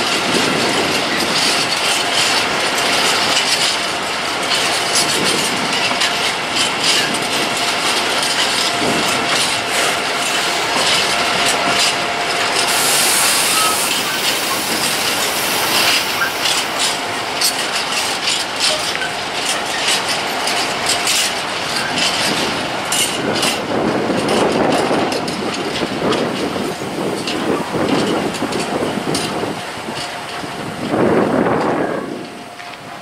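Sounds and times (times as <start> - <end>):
wagons clicking and clanking: 0.0 - 32.8
train wheels rumbling on rails: 0.0 - 33.0.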